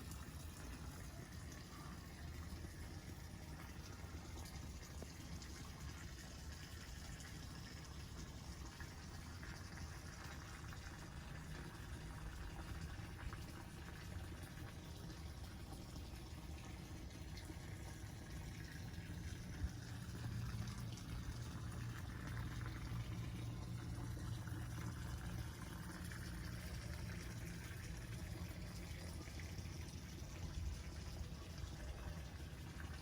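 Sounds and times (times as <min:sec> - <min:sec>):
running water: 0:00.0 - 0:33.0.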